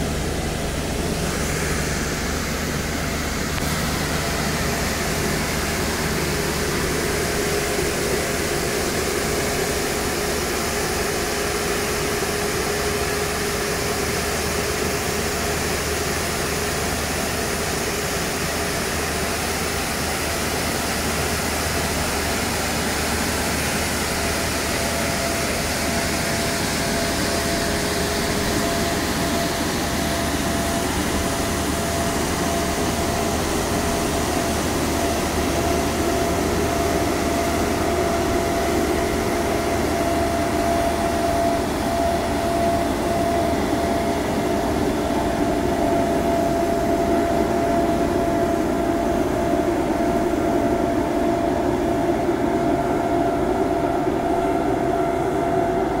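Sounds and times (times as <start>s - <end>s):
street sweeper engine and brushes: 0.0s - 56.0s.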